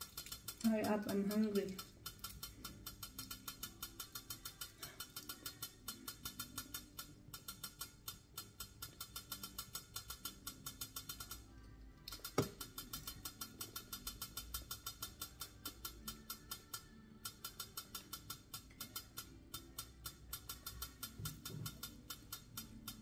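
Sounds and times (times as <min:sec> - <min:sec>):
pot steam valve rattling: 0:00.0 - 0:11.5, 0:12.1 - 0:23.0.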